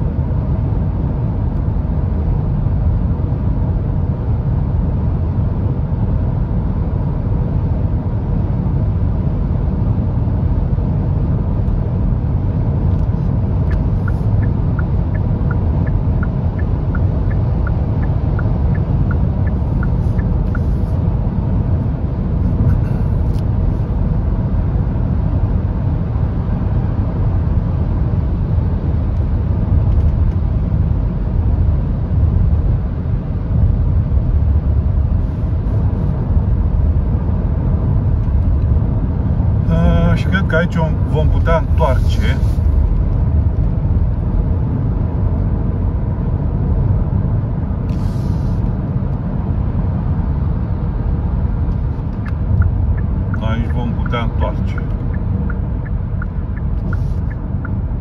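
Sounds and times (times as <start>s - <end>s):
car road noise low rumble: 0.0s - 58.0s.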